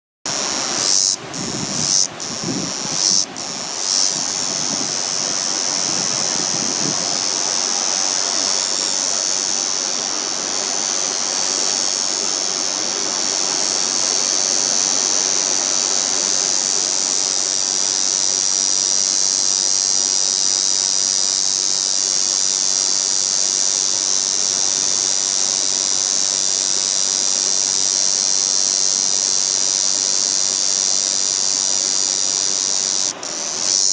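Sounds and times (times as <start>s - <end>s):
cicadas droning: 0.3s - 33.9s.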